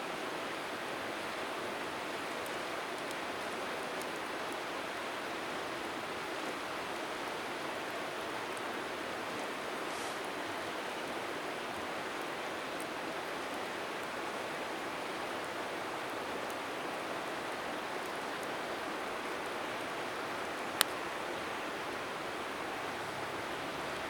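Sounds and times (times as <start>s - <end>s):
river flowing: 0.0s - 24.0s
bonfire crackling: 0.2s - 24.0s.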